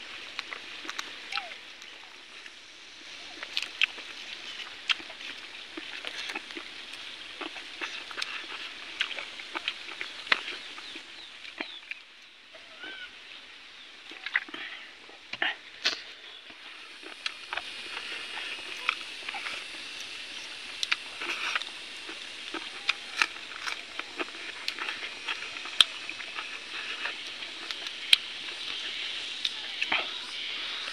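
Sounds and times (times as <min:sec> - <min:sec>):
wet chewing and lip-smacking: 0:00.3 - 0:12.0, 0:15.4 - 0:30.9.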